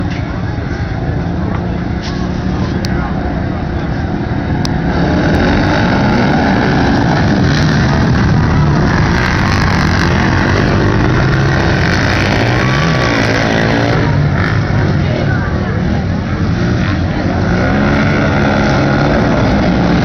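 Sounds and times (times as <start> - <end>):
quad engines racing: 0.0 - 20.0.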